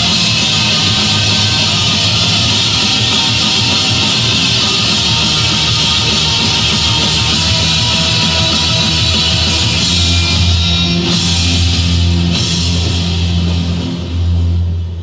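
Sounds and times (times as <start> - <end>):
distorted electric guitar: 0.0 - 15.0
drums: 0.0 - 15.0
heavy rock music: 0.0 - 15.0.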